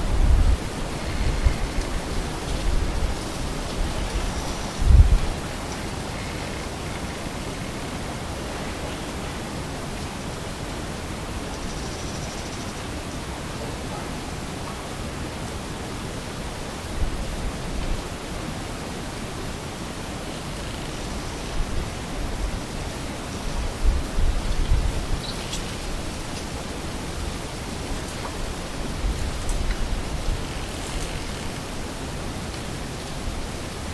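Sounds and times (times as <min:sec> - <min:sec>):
steady outdoor hiss: 0:00.0 - 0:33.9.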